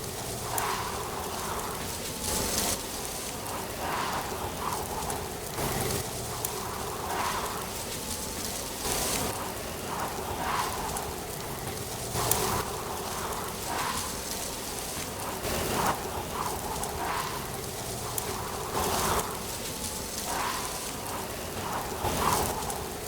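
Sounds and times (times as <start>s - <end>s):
dry leaves rustling: 0.0s - 23.0s
wind gusting: 0.0s - 23.0s.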